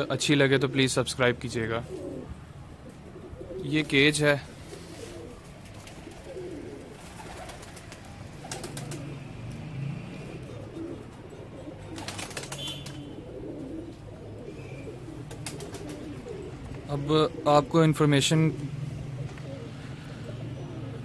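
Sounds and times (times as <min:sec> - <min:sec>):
pigeons cooing softly: 0:00.0 - 0:21.0.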